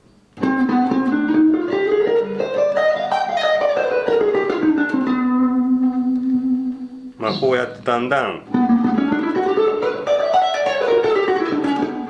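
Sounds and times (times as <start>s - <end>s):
clean electric guitar scale: 0.4s - 11.8s.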